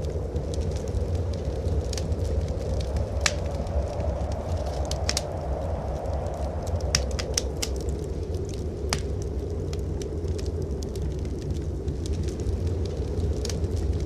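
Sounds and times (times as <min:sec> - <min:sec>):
low rush of wind: 0:00.0 - 0:14.0
wood fire crackling and popping: 0:00.0 - 0:14.0.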